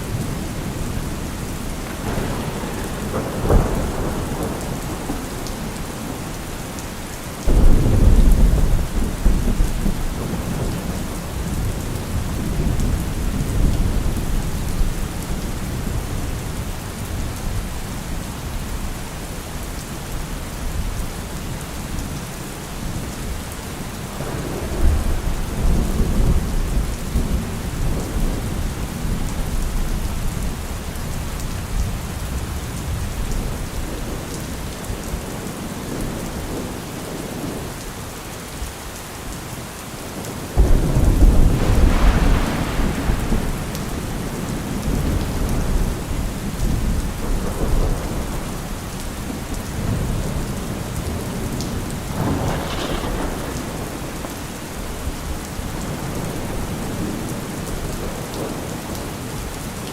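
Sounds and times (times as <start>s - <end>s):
rolling thunder: 0.0s - 6.8s, 7.4s - 18.2s, 24.2s - 37.7s, 40.6s - 59.1s
steady rain hiss: 0.0s - 59.9s.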